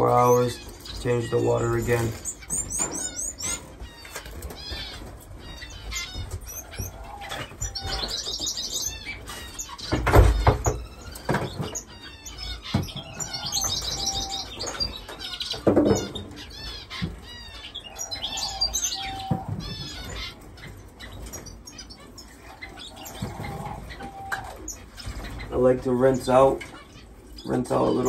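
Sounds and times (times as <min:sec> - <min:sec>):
finches chirping: 0:00.0 - 0:28.0.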